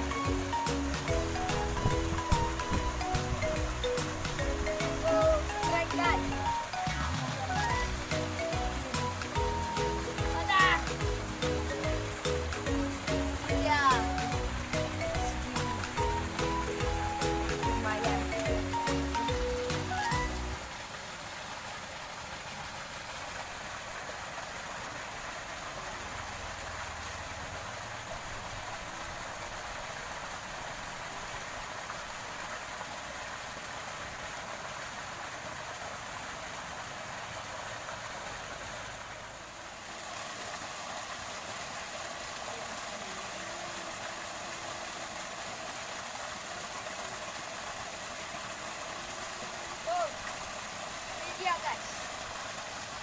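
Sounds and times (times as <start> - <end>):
waterfall rushing into stream: 0.0 - 53.0.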